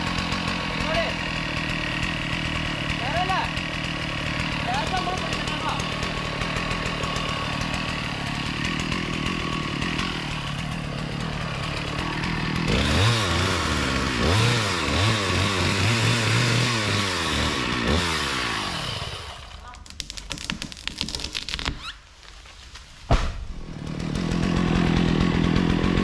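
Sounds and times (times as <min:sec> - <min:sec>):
chainsaw engine revving: 0:00.0 - 0:19.9, 0:23.5 - 0:26.0.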